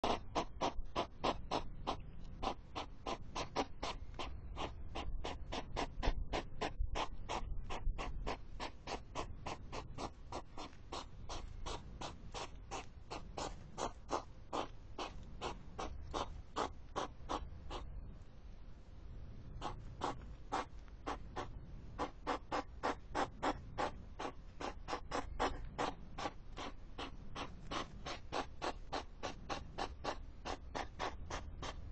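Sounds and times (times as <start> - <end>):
hedgehog huffing and snorting: 0.0 - 17.9, 19.6 - 31.9.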